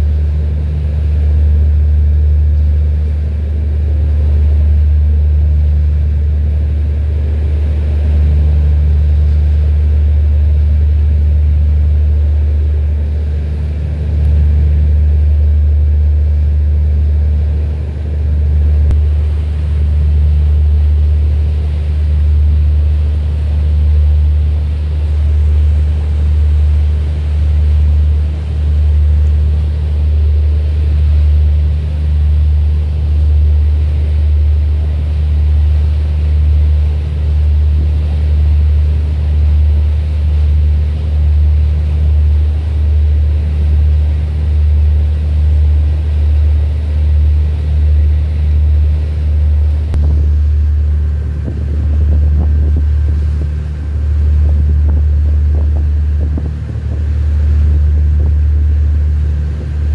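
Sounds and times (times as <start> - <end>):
boat engine rumbling: 0.0 - 59.9.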